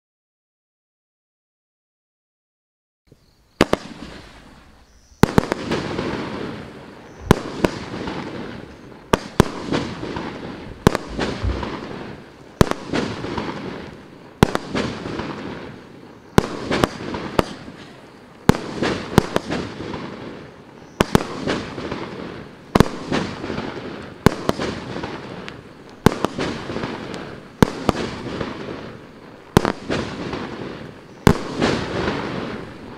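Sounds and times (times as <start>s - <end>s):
firework shots banging: 3.6s - 15.8s, 16.4s - 32.9s.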